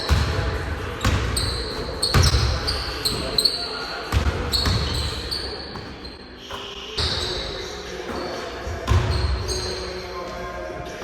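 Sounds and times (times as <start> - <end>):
basketball bouncing on gym floor: 0.0 - 3.5, 4.1 - 9.8.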